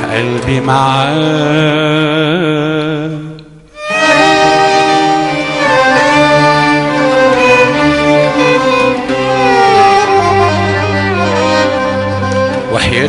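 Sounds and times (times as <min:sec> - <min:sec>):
violins and accordion melody: 0:00.0 - 0:13.0.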